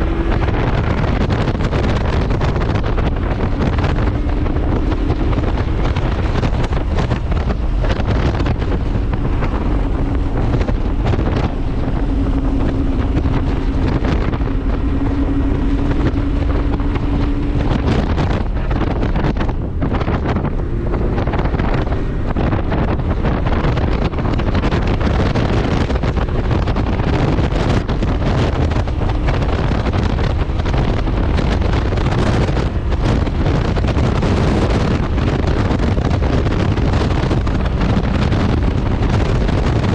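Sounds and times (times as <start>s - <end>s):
car engine drone: 0.0s - 39.9s
wind buffeting microphone: 0.0s - 39.9s.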